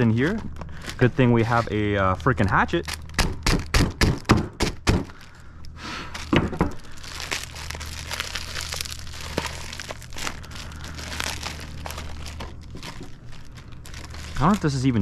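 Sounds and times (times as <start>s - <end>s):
plastic wrapping crinkling: 0.0s - 3.8s, 4.9s - 15.0s.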